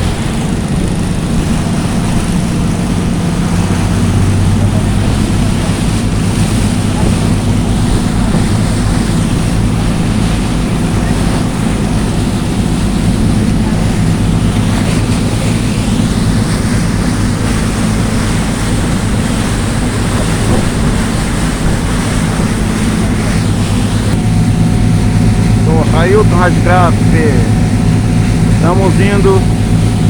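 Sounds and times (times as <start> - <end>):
boat engine running: 0.0 - 30.0
water rushing along hull: 0.0 - 30.0
wind buffeting microphone: 0.0 - 30.0.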